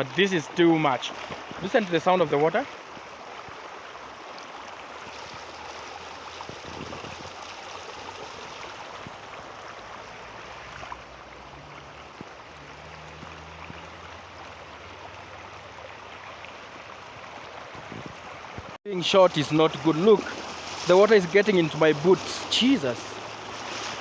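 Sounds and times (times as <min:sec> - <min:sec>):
floodwater rushing and gurgling: 0:00.0 - 0:24.0.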